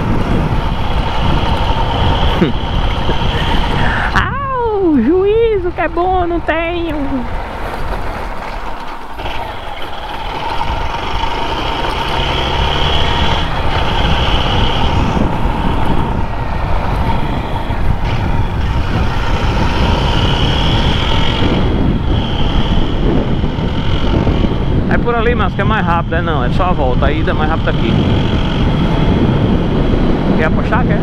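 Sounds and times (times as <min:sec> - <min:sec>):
motorcycle engine and road noise: 0:00.0 - 0:31.0
wind rushing over microphone: 0:00.0 - 0:31.0.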